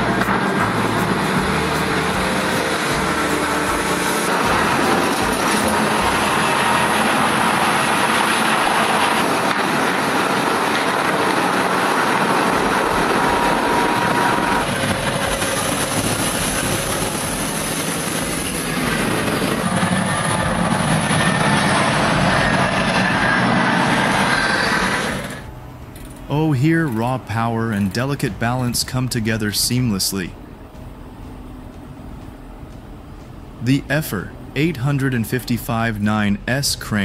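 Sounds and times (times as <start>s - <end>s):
haul truck engine rumble: 0.0s - 37.0s.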